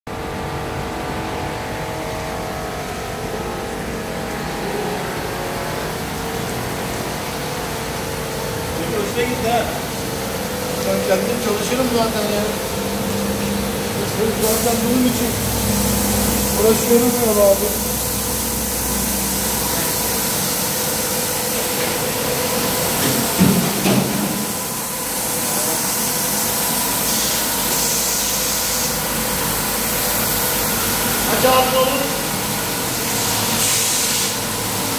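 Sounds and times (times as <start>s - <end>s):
carpet washing machine running: 0.1s - 34.9s.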